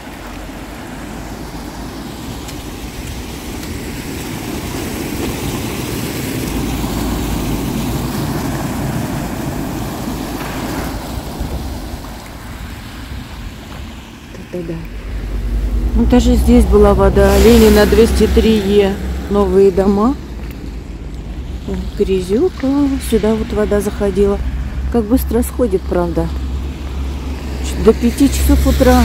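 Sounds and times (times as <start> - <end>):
car splashing through floodwater: 0.0 - 29.0
floodwater flowing: 0.0 - 29.0.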